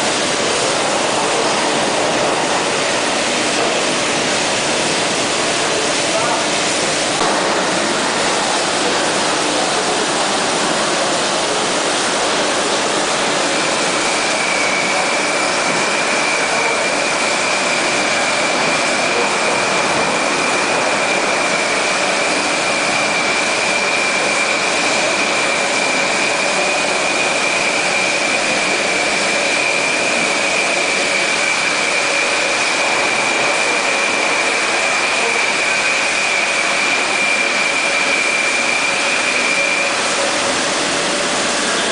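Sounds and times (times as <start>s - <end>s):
filling machinery running: 0.0s - 41.9s
high steady whine: 0.0s - 41.9s.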